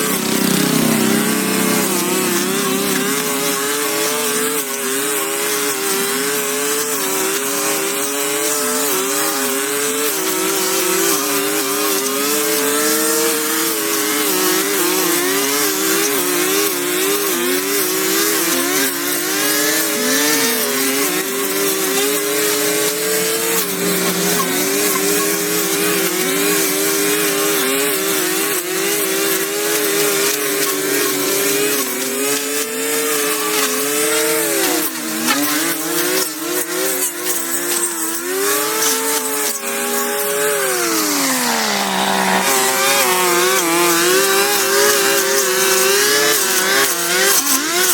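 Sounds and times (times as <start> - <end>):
small petrol engine running: 0.0 - 47.9.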